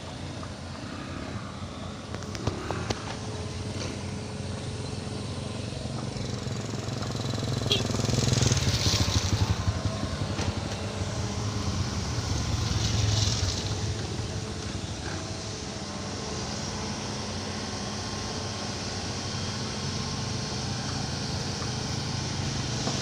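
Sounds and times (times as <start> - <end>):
excavator diesel engine: 0.0 - 23.0.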